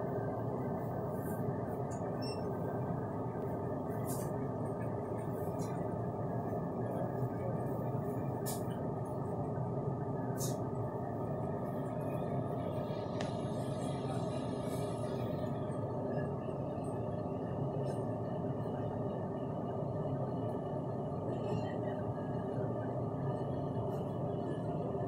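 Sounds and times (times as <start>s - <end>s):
low rumble and hiss: 0.0s - 25.0s.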